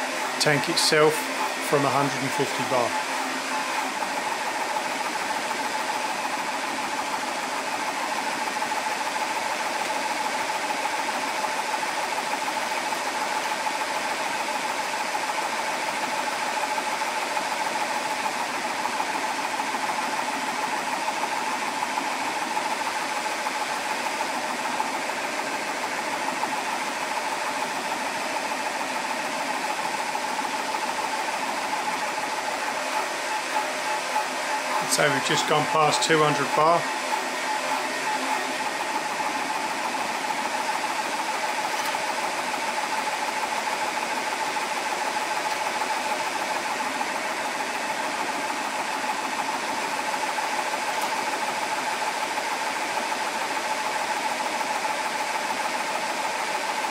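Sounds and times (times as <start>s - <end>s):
air compressor whirring: 0.0s - 56.9s.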